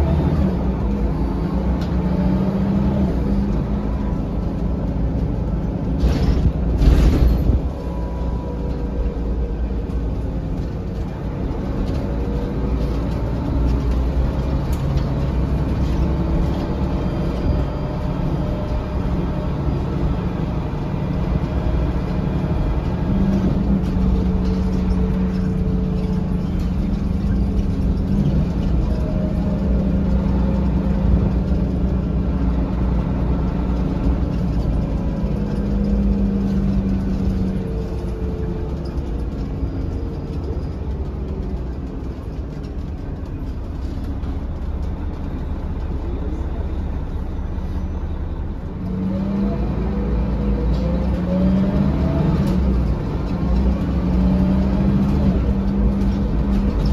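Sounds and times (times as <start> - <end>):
bus engine and road rumble: 0.0 - 56.9
steady engine hum: 0.0 - 56.9.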